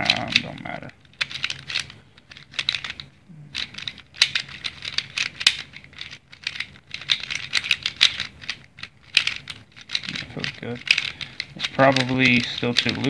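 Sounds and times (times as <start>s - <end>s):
speed cube clicking and rattling: 0.0s - 13.0s.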